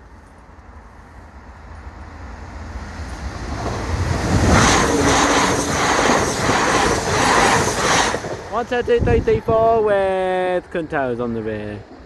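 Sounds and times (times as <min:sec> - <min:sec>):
diesel train passing: 0:00.0 - 0:12.0
train wheels clattering on track: 0:01.4 - 0:12.0.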